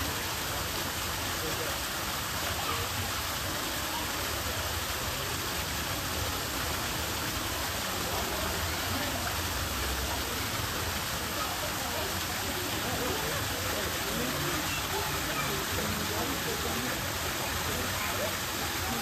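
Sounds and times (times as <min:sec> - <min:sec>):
water pouring into a pool: 0:00.0 - 0:19.0.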